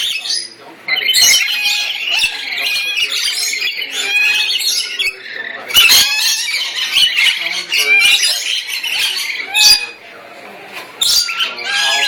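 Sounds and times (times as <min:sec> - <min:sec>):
birds squawking and chirping: 0:00.0 - 0:12.0.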